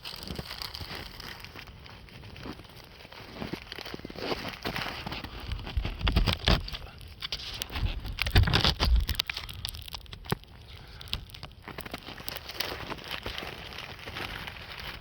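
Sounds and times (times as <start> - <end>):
campfire crackling: 0.0 - 4.6, 6.1 - 15.0.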